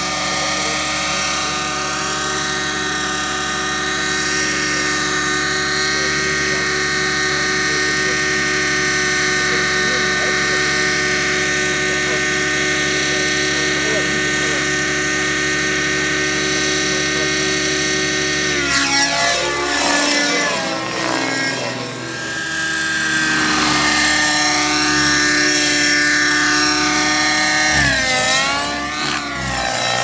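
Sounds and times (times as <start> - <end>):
model helicopter rotor whine: 0.0 - 30.0.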